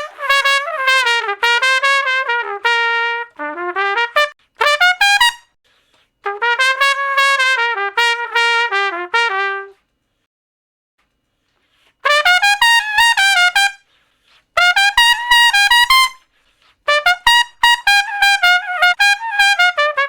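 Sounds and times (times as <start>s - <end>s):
trumpet playing quick runs: 0.0s - 5.6s, 6.2s - 9.8s, 12.0s - 13.9s, 14.6s - 20.0s.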